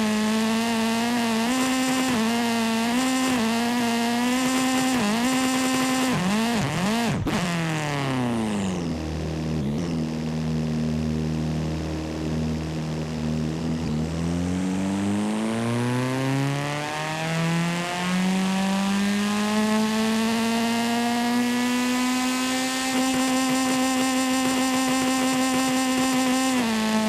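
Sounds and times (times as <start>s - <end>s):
video game car engine accelerating: 0.0s - 27.0s.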